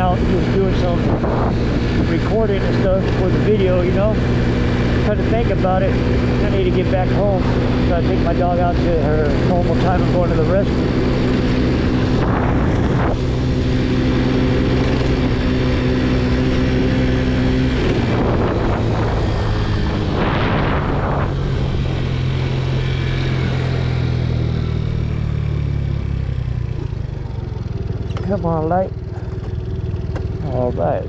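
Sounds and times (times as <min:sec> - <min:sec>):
scooter engine running: 0:00.0 - 0:31.0.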